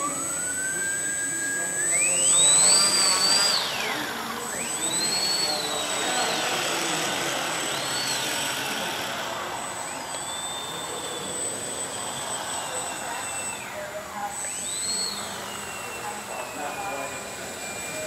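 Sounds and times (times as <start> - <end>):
model aircraft motor whining: 0.0 - 18.0.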